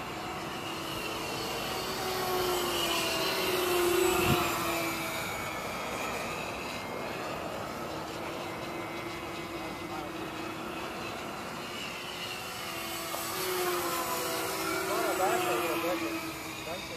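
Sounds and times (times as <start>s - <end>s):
model airplane engines whining: 0.0s - 16.9s.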